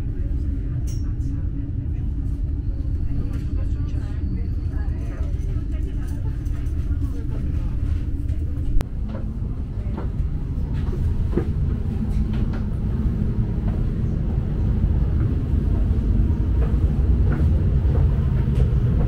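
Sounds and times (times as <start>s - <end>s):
train carriage rumble: 0.0s - 19.0s.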